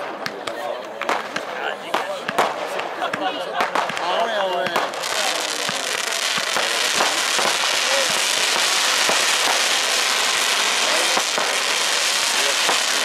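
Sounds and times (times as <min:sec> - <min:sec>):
fireworks crackling: 0:00.0 - 0:13.0
fireworks pops and bangs: 0:00.0 - 0:13.0.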